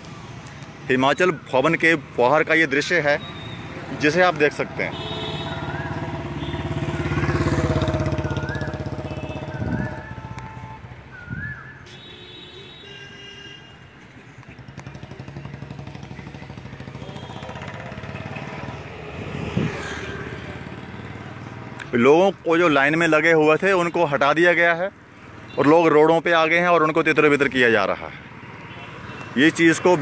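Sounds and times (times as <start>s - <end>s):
motorcycles passing: 1.7s - 11.4s, 14.0s - 30.0s.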